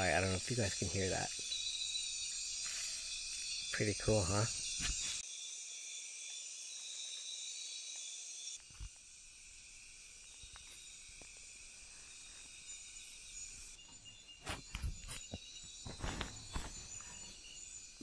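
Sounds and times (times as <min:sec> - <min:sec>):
night insects buzzing and trilling: 0:00.0 - 0:18.0.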